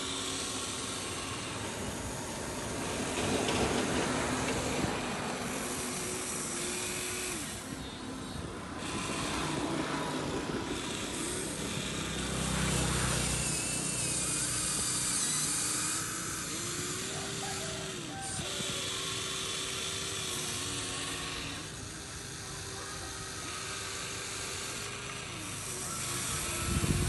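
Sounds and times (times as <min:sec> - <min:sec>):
small electric motors whining: 0:00.0 - 0:27.0.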